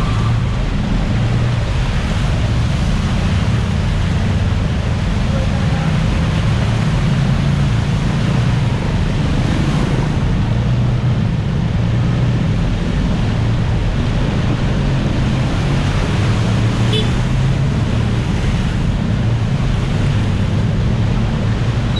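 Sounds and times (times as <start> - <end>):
rushing wind: 0.0 - 21.9
water noise: 0.0 - 21.9.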